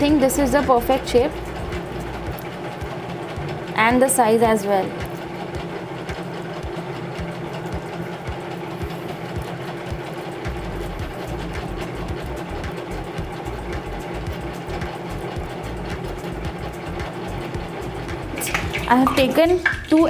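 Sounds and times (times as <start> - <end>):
machine humming with soft ticks: 0.0 - 20.0.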